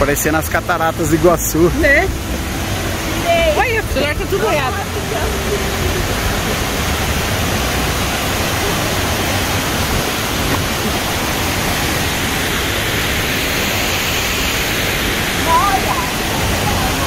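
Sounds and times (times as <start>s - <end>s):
waterfall crashing into pool: 0.0s - 17.0s.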